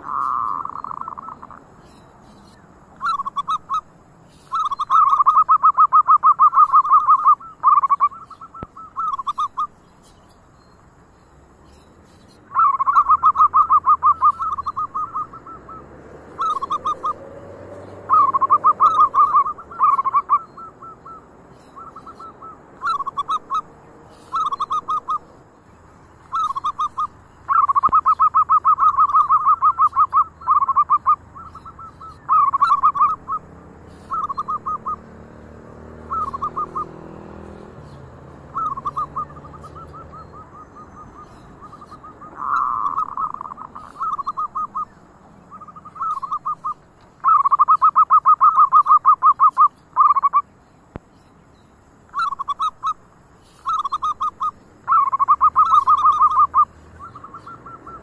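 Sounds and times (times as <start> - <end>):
doves cooing: 0.0 - 10.2, 12.4 - 25.6, 26.2 - 50.4, 52.1 - 58.0.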